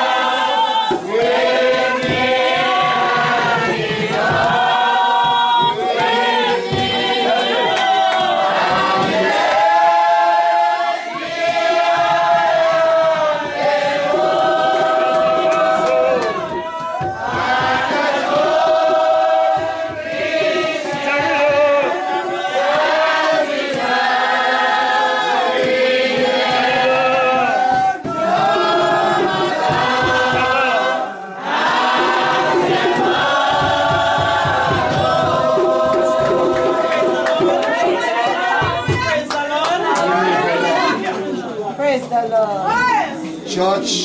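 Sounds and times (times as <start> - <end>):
congregation singing: 0.0 - 41.8.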